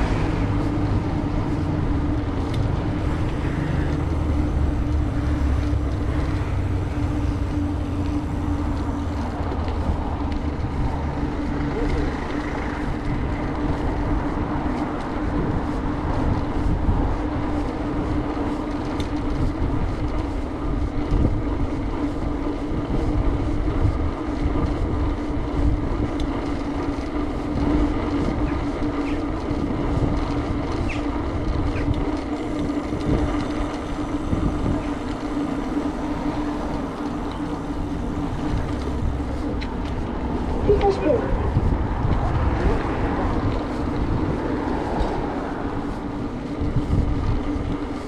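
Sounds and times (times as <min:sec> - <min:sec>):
bicycle tyre road noise: 0:00.0 - 0:48.0
constant low hum: 0:00.0 - 0:48.0
wind buffeting microphone: 0:00.0 - 0:48.0.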